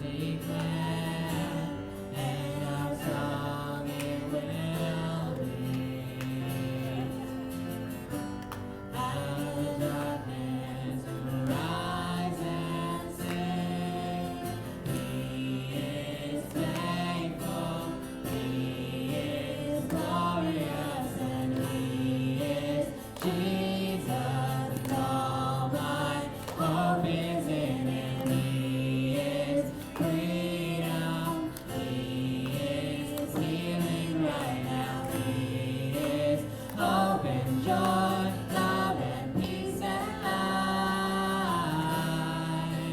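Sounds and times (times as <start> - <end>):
group singing gospel song: 0.0 - 42.9.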